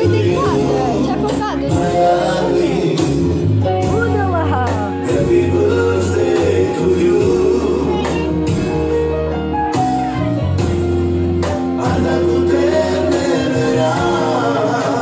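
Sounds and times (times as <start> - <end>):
song with singing and bass line: 0.0 - 15.0.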